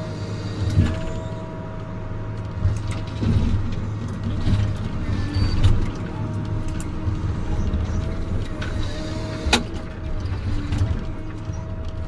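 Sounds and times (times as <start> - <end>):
harvester engine running with whine: 0.0 - 12.0.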